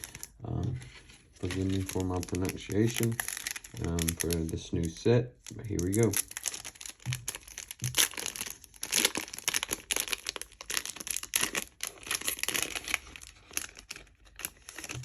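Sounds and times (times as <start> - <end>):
wrapper tearing and crinkling: 0.0 - 0.4, 1.4 - 15.0.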